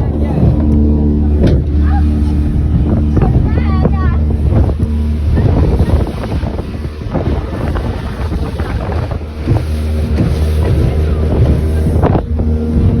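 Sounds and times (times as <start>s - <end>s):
speedboat engine running: 0.0s - 13.0s
wind buffeting microphone: 0.0s - 13.0s.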